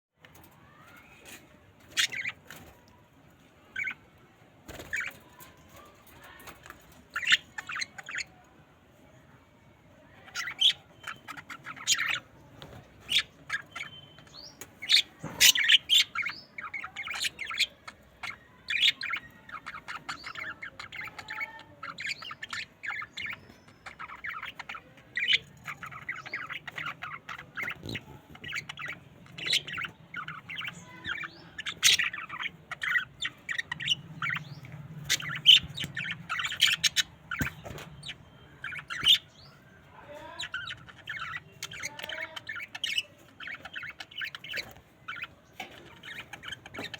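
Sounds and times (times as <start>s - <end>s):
budgerigars chirping and squawking: 0.3s - 8.6s, 10.0s - 46.9s.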